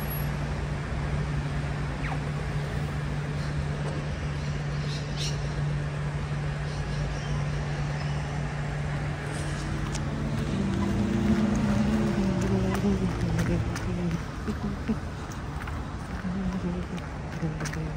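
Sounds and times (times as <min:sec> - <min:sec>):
traffic noise: 0:00.0 - 0:17.9
vehicle engine hum: 0:00.0 - 0:17.9.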